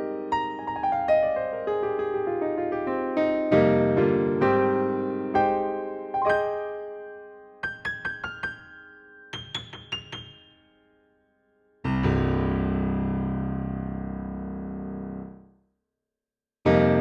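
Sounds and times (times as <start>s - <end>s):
synthesizer piano chords: 0.0s - 15.5s, 16.7s - 17.0s.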